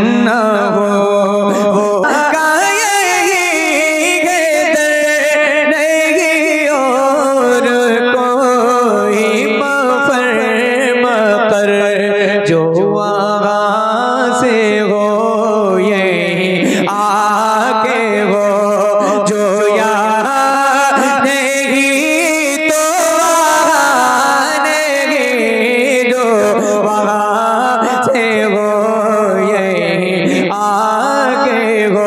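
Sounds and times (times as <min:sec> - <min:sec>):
man singing melodic phrases: 0:00.0 - 0:32.0.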